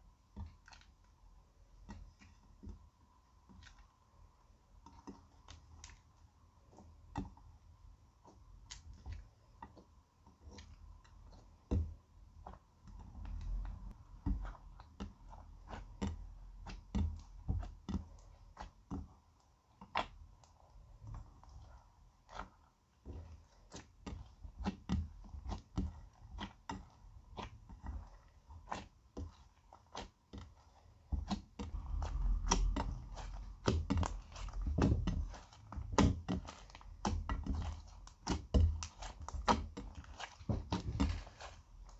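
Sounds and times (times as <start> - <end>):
slime squelching: 0.1 - 41.9.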